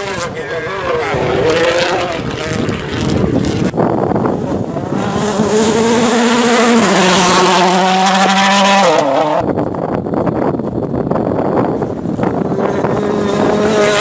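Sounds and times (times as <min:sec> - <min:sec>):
rally car engine passing: 0:00.0 - 0:09.5, 0:11.7 - 0:14.0
rough rush of noise: 0:00.0 - 0:14.0.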